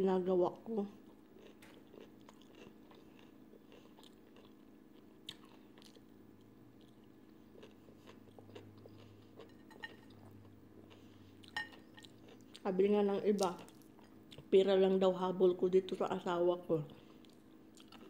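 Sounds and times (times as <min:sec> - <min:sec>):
low steady hum: 0:00.0 - 0:18.0
chewing food: 0:00.9 - 0:14.6, 0:16.9 - 0:18.0.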